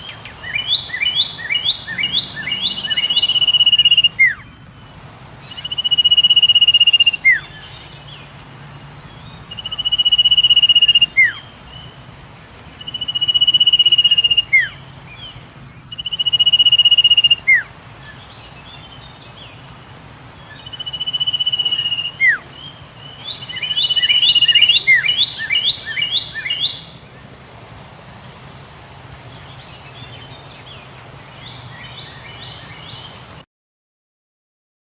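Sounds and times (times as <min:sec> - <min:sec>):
bird singing: 0:00.0 - 0:33.4.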